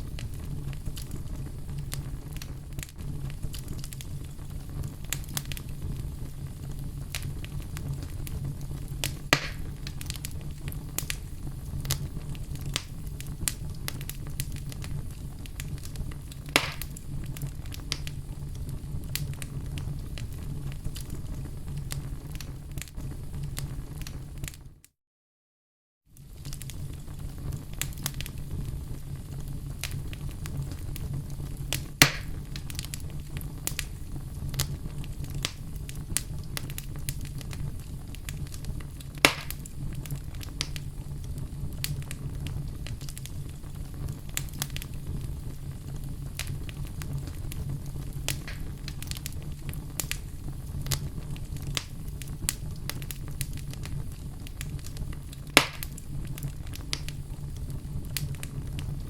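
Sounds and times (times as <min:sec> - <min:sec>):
loud sharp fire pops: 0:00.0 - 0:24.6, 0:26.2 - 0:59.0
fire crackling in fireplace: 0:00.0 - 0:24.8, 0:26.1 - 0:59.0.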